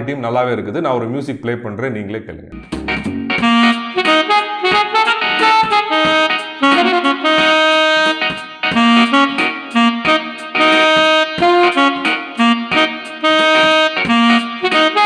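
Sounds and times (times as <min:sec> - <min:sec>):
instrumental music from speaker: 0:02.4 - 0:15.0.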